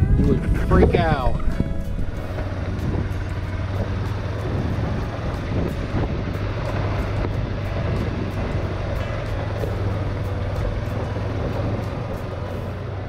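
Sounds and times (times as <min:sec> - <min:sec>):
engine running: 0:00.0 - 0:13.0
wind rush: 0:00.0 - 0:13.0.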